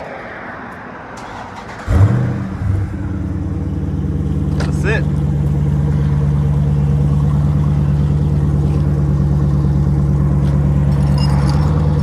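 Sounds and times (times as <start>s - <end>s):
loud car engine idling: 1.2s - 12.0s.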